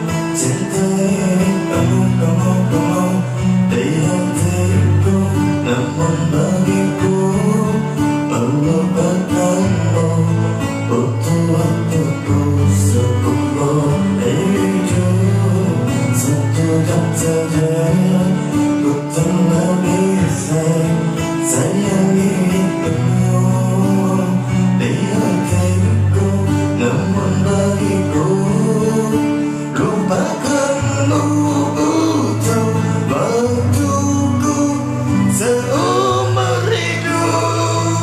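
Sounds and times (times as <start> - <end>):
man singing: 0.0 - 38.0
pop ballad with guitar and bass: 0.0 - 38.0.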